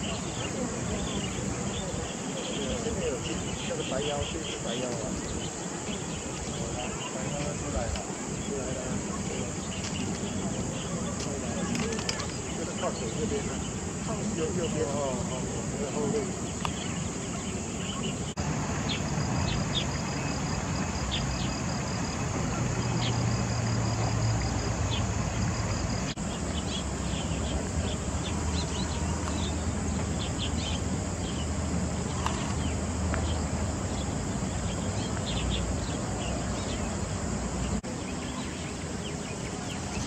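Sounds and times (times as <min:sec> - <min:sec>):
pulsing insect trill: 0:00.0 - 0:40.0
steady hiss: 0:00.0 - 0:40.0.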